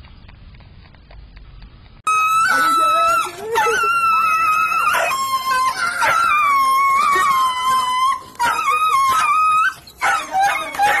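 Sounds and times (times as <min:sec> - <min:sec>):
dog whining: 0:02.1 - 0:11.0.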